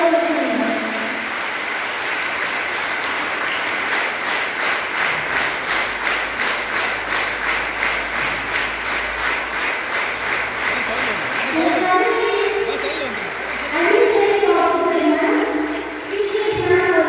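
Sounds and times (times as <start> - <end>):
audience clapping in rhythm: 0.0 - 17.0.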